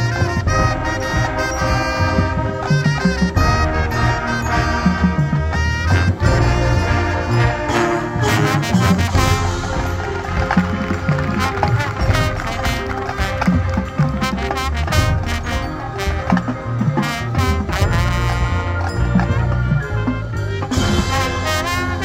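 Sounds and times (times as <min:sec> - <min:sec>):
brass chords: 0:00.0 - 0:22.0
percussion ensemble: 0:00.0 - 0:22.0.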